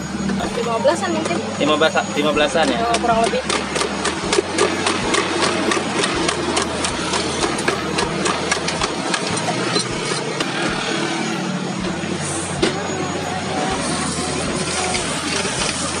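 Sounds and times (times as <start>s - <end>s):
background din: 0.0s - 16.0s.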